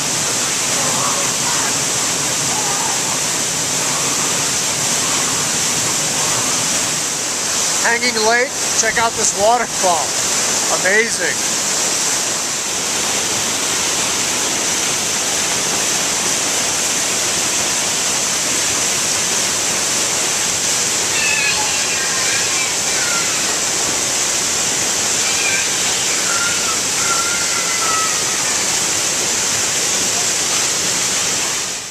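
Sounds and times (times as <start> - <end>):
waterfall pouring onto rocks: 0.0 - 31.9.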